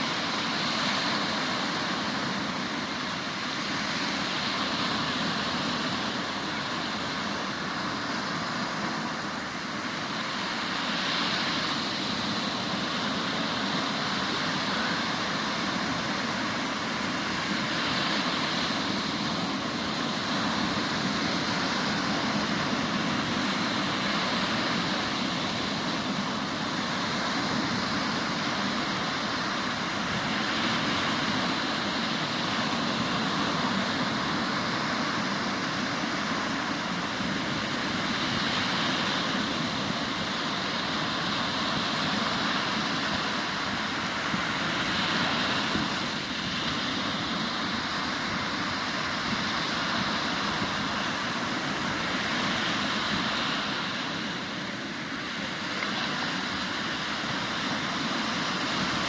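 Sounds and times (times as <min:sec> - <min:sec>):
sea surf washing on shore: 0:00.0 - 0:59.0.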